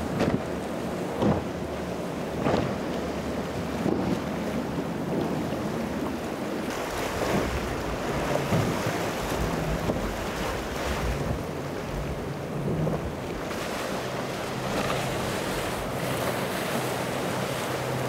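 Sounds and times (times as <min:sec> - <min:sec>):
wind buffeting microphone: 0:00.0 - 0:17.9
boat engines humming: 0:00.0 - 0:18.0
waves washing: 0:00.0 - 0:18.0.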